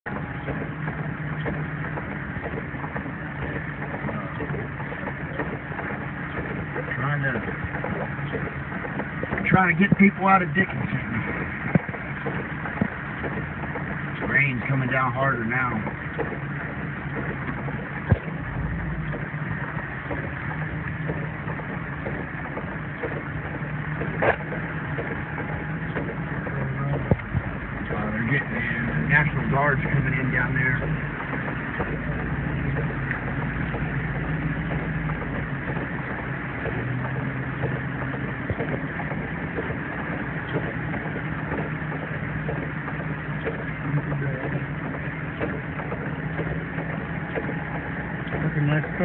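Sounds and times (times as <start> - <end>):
rain: 0.0 - 49.0
tyres through water: 0.0 - 49.0
vehicle engine running: 0.0 - 49.0.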